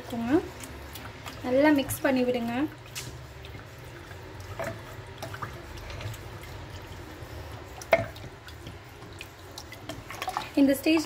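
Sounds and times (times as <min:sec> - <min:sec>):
liquid sloshing: 0:00.0 - 0:11.0.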